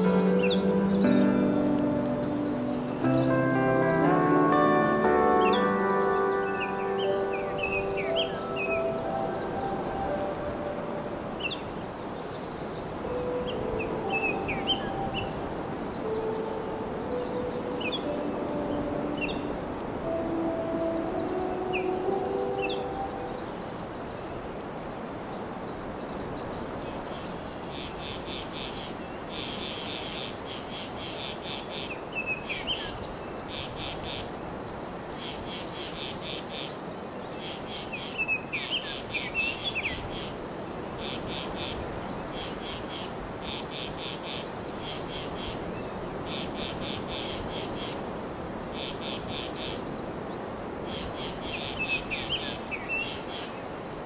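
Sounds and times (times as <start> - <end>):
bird chirping: 0.0 - 24.6, 25.6 - 48.0, 50.8 - 53.7
background hiss: 0.0 - 54.0
insects chirping: 0.0 - 54.0.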